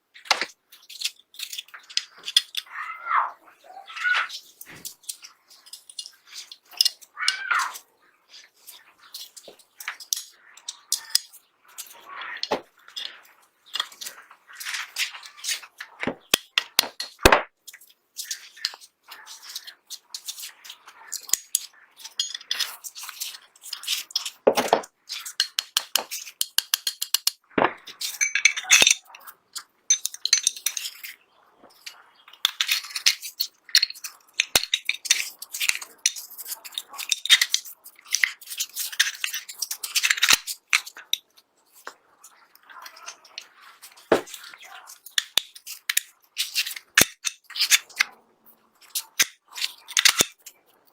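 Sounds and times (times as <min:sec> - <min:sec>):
small metal parts clicking: 0:00.2 - 0:02.8, 0:04.2 - 0:31.2, 0:31.8 - 0:48.2, 0:48.8 - 0:50.9.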